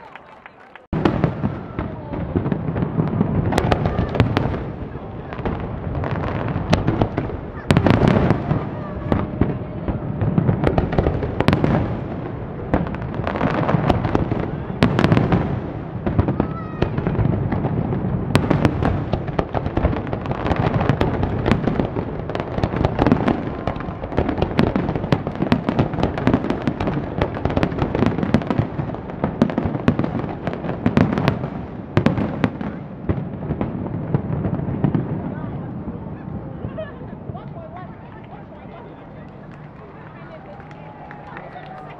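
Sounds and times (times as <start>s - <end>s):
fireworks bursts and crackling: 0.0s - 41.9s.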